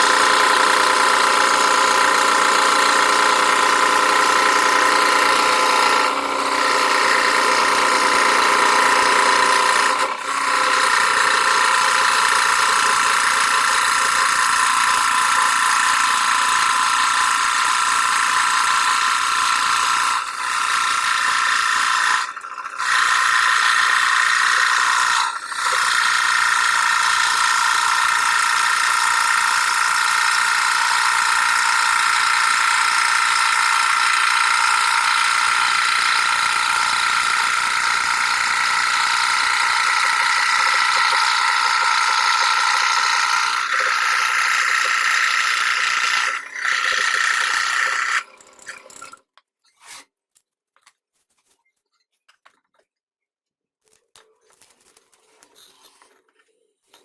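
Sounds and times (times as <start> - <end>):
scroll saw cutting plywood: 0.0 - 50.1.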